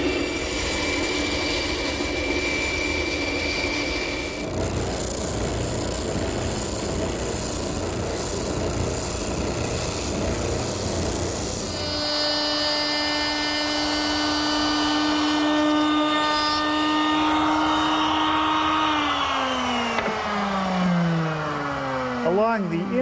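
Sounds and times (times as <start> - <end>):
spindle sander sanding wood: 0.0 - 18.5
router whine: 0.0 - 23.0.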